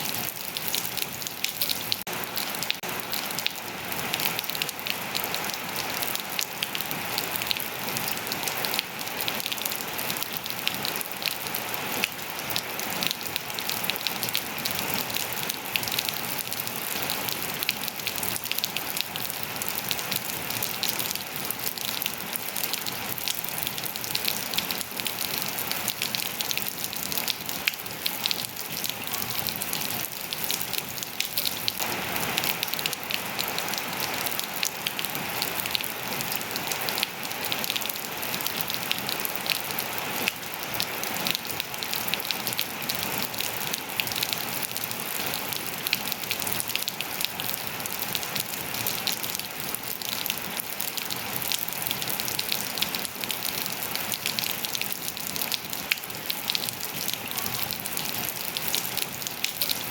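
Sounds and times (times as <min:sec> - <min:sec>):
rain on hard surfaces and foliage: 0:00.0 - 0:59.9.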